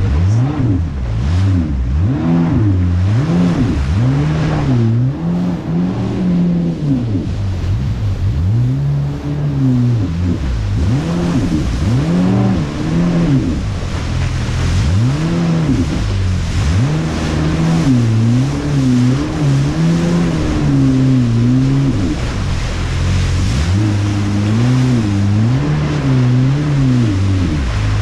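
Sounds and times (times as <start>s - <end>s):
jet ski engine: 0.0s - 28.0s.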